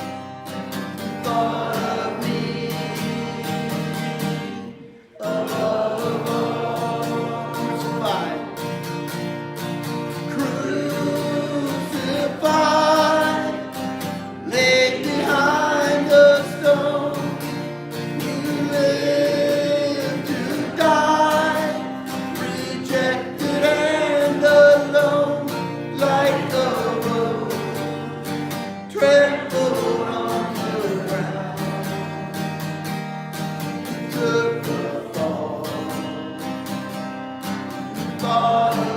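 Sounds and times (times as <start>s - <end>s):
guitar accompaniment: 0.0s - 38.9s
person singing: 1.0s - 8.7s, 10.1s - 32.4s, 33.9s - 36.9s, 37.9s - 38.9s.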